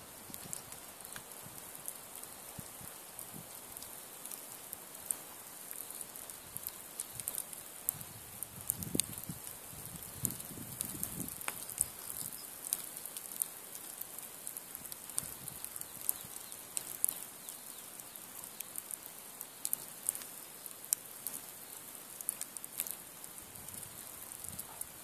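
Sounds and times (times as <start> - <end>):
faint steady hiss: 0.0 - 25.0
log fire crackling: 0.0 - 25.0.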